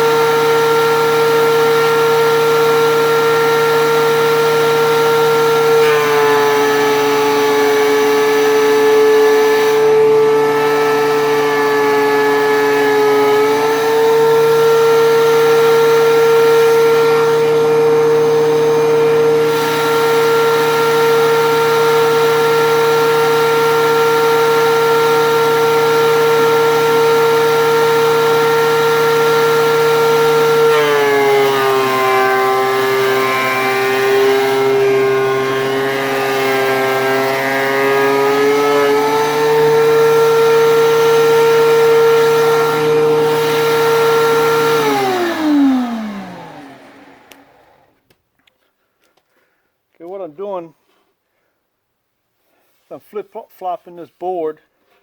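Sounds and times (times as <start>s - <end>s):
thickness planer motor whine: 0.0s - 48.0s.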